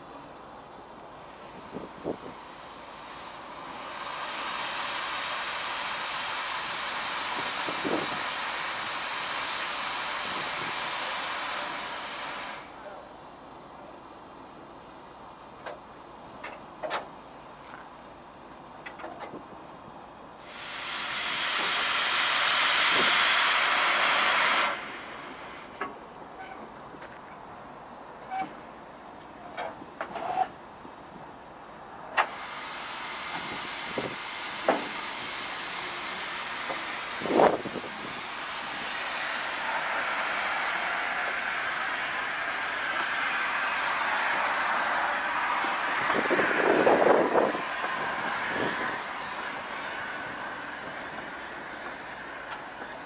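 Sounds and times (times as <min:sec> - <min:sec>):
steam locomotive hissing steam: 0:00.0 - 0:53.0.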